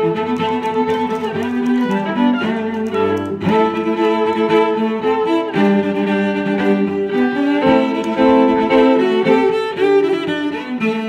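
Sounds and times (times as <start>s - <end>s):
bowed strings music: 0.0s - 11.0s.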